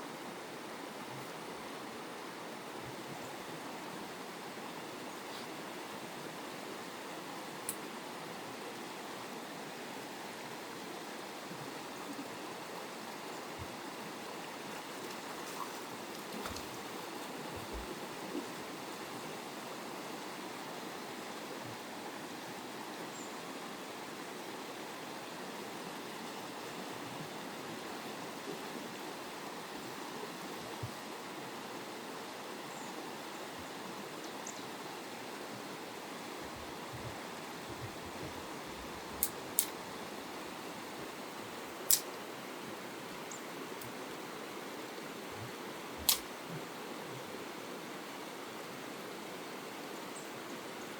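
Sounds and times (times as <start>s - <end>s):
flowing water rushing: 0.2s - 50.9s.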